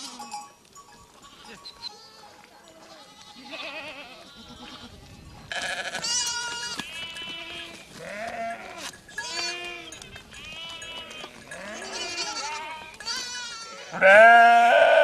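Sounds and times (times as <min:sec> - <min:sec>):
sheep and goats bleating: 0:00.0 - 0:15.0.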